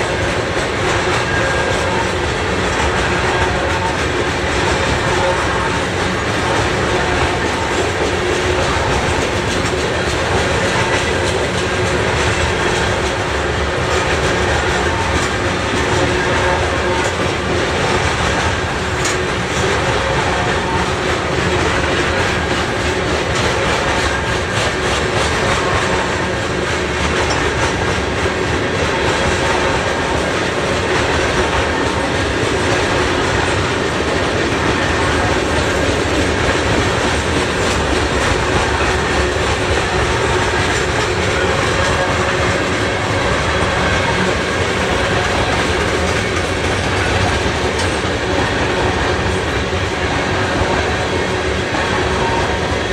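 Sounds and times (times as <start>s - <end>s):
freight train rumble: 0.0s - 52.9s
train wheels clattering on rails: 0.0s - 52.9s.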